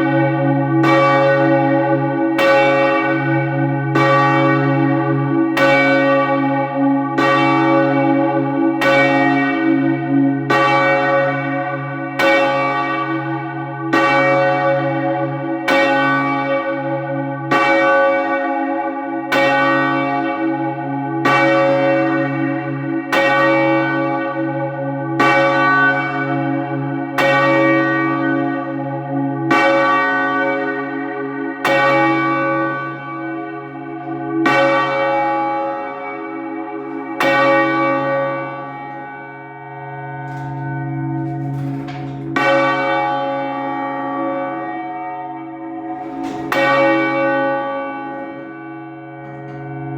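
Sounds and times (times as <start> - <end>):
church bell ringing: 0.0 - 49.9.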